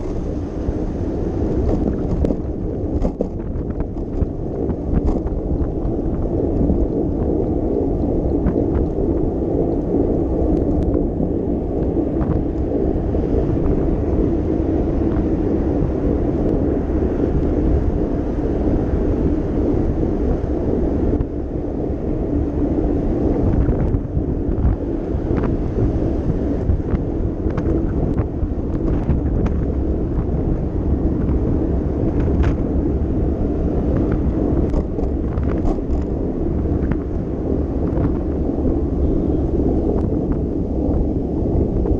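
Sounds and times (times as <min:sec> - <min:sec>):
wind rumble on microphone: 0:00.0 - 0:41.9.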